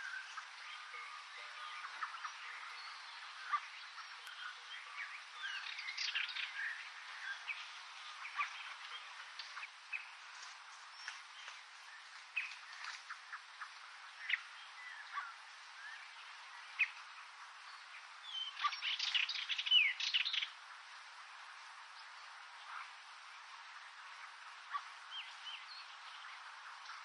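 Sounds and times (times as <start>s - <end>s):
faint hiss: 0.0s - 27.0s
small birds chirping: 0.0s - 27.0s.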